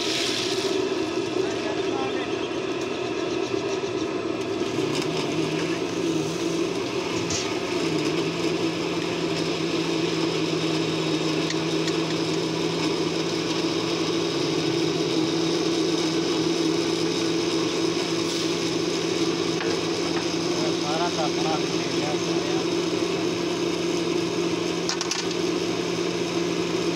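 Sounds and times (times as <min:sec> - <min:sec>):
food deep-frying in hot oil: 0:00.0 - 0:01.4, 0:02.6 - 0:26.9
machine hum: 0:00.0 - 0:26.9.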